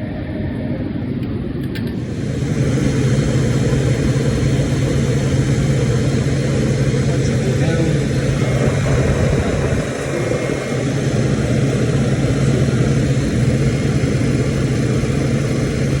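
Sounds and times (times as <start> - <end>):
refrigerator unit humming: 0.0 - 16.0.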